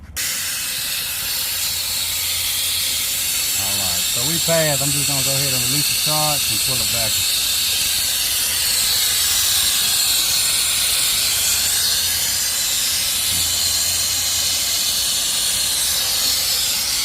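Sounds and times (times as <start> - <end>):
gas hissing out: 0.0 - 17.0.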